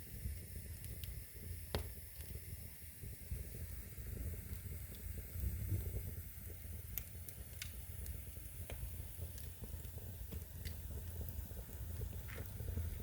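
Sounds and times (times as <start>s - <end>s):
fire crackling and popping: 0.0s - 13.0s
flames rumbling: 0.0s - 13.0s.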